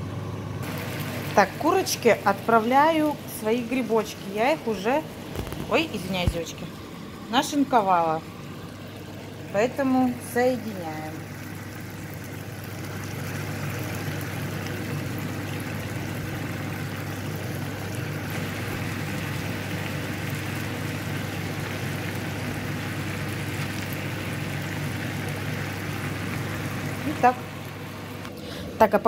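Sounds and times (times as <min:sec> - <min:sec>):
food sizzling in a frying pan: 0:00.6 - 0:28.2.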